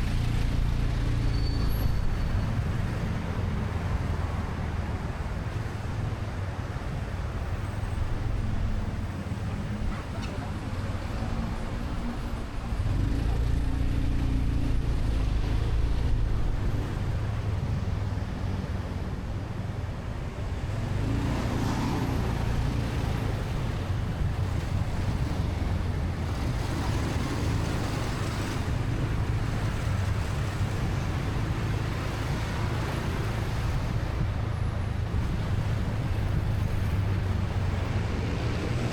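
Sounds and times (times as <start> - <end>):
road and traffic noise: 0.0 - 38.9.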